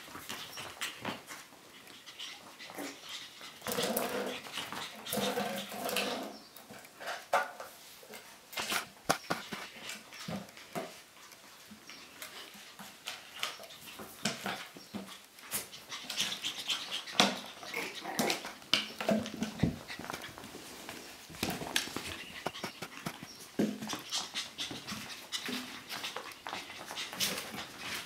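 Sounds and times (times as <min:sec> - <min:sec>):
puppies whimpering and panting: 0:00.2 - 0:06.5, 0:11.5 - 0:28.0.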